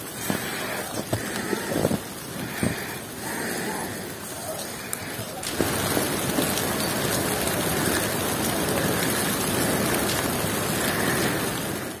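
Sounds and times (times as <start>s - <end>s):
wet snow pattering: 0.0s - 12.0s.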